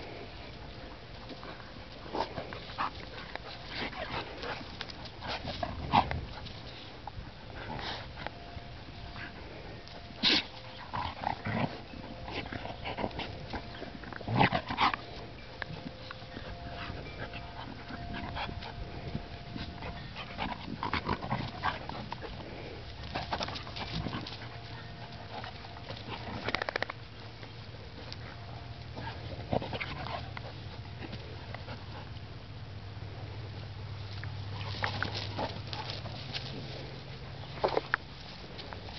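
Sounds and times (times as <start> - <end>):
dogs scuffling: 0.0 - 32.2, 34.0 - 38.9.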